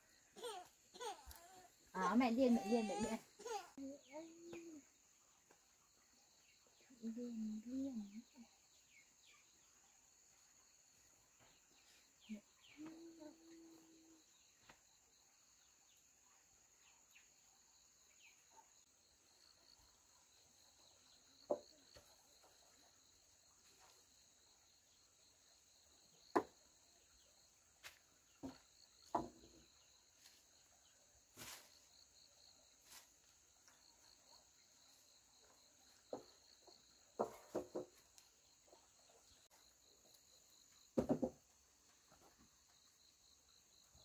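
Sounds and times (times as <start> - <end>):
insects chirping: 0.0 - 44.0.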